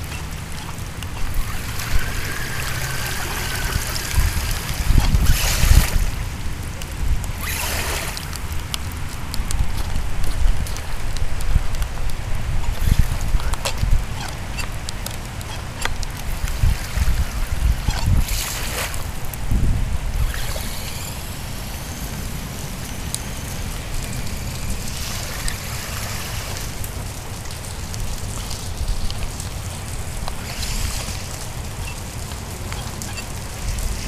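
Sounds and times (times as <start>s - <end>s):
heavy rain falling: 0.0s - 34.0s
toy car driving through water: 0.0s - 34.0s
water splashing: 0.0s - 34.0s
wind buffeting microphone: 0.0s - 34.0s.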